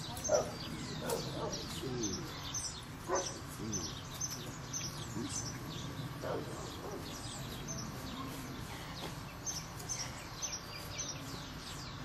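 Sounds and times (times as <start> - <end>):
outdoor background: 0.0 - 12.0
small birds chirping: 0.0 - 12.0.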